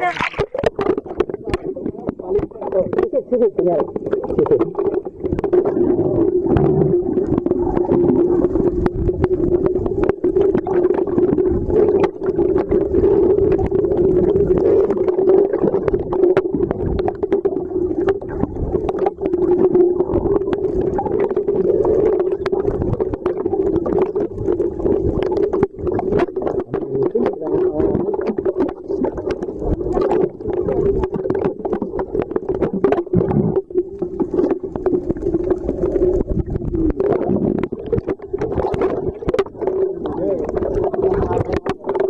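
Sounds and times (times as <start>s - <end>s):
underwater clicks and crackles: 0.0s - 42.0s.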